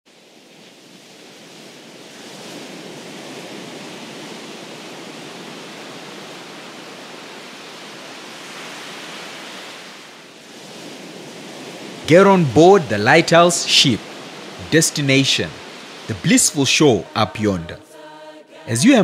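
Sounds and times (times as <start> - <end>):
ocean surf rushing: 0.1 - 19.0.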